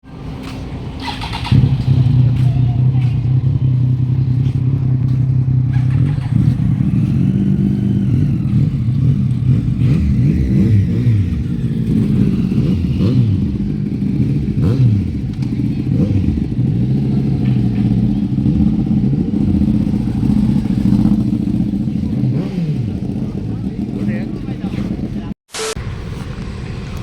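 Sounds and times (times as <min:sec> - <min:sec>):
motorcycle engine revving: 0:00.4 - 0:27.0
motorcycle engine idling: 0:01.0 - 0:25.3.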